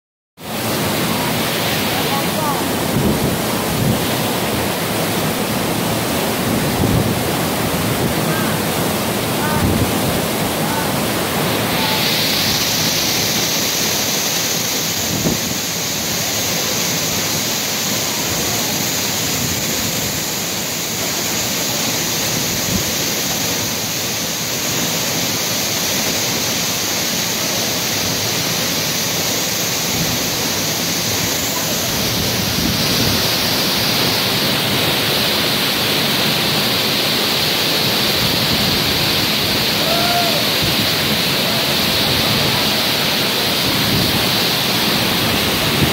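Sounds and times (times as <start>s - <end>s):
waterfall rushing: 0.4s - 45.9s.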